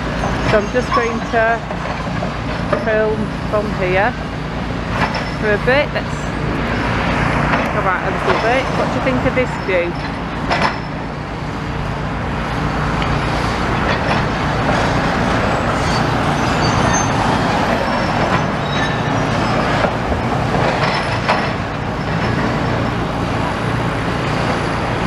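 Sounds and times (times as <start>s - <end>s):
road traffic passing: 0.0s - 25.0s.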